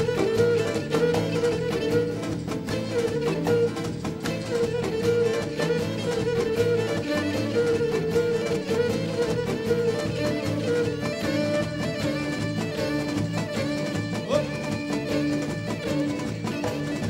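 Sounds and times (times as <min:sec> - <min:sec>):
bowed string melody: 0:00.0 - 0:17.0
strummed lute: 0:00.0 - 0:17.0.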